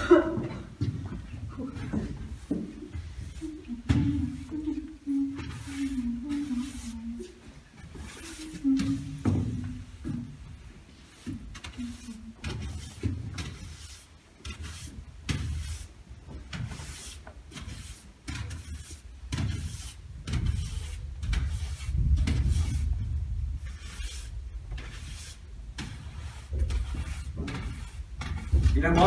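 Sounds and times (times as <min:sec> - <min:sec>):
push broom sweeping wooden floor: 0:00.2 - 0:29.0.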